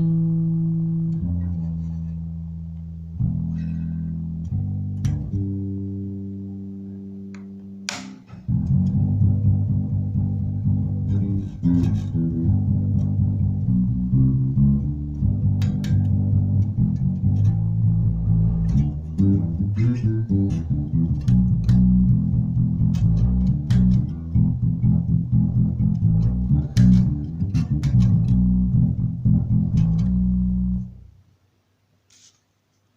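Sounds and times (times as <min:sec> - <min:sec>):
electric bass guitar notes: 0:00.0 - 0:31.2
string and fret clicks: 0:01.0 - 0:05.7, 0:07.2 - 0:31.0.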